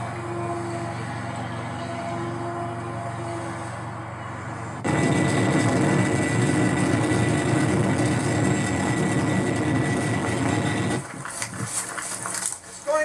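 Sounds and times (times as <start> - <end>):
airplane engine whining: 0.0 - 12.7.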